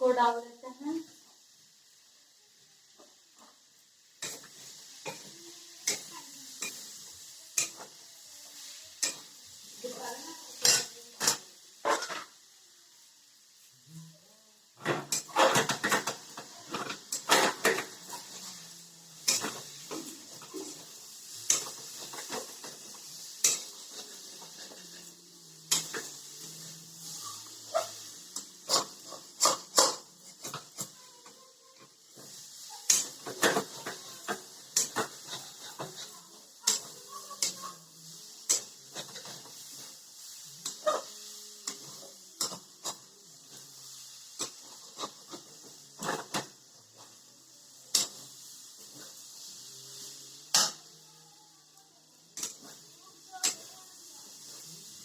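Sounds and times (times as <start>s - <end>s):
light sizzle: 0.0s - 55.0s
spatula scraping cooking pan: 3.3s - 12.4s, 14.8s - 50.9s, 52.1s - 55.0s.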